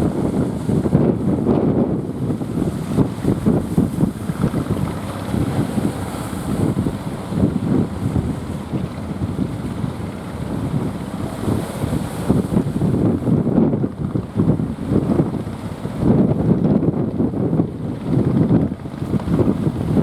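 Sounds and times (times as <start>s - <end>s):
sea surf: 0.0s - 20.0s
wind buffeting microphone: 0.0s - 20.0s.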